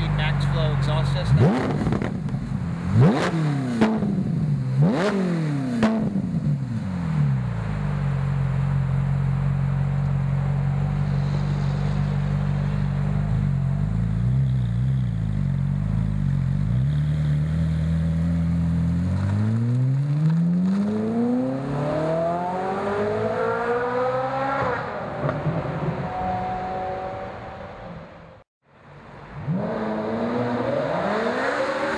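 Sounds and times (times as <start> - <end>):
sports car engine idling and revving: 0.0 - 27.9.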